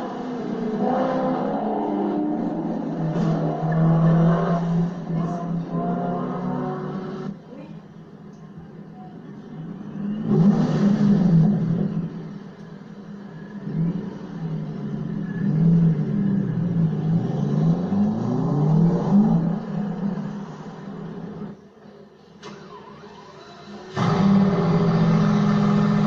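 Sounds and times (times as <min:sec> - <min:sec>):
car engines revving: 0:00.0 - 0:07.4, 0:09.4 - 0:21.7, 0:22.4 - 0:26.0.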